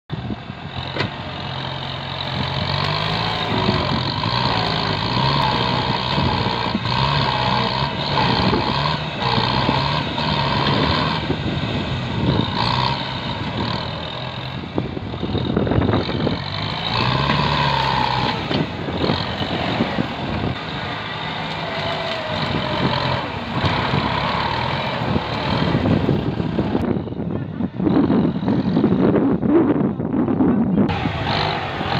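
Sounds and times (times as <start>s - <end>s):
tractor diesel engine under load: 0.1s - 31.9s.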